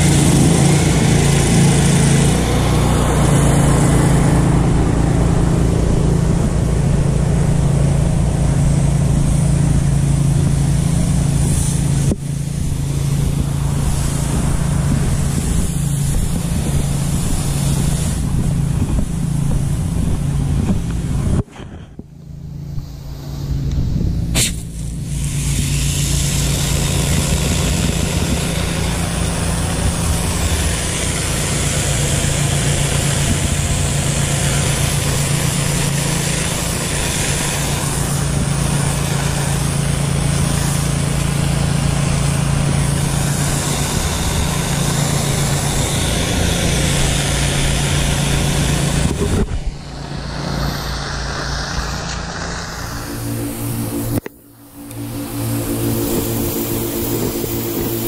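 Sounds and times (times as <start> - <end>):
high-pressure water jet hissing: 0.0 - 58.0
pressure washer engine hum: 0.0 - 58.0.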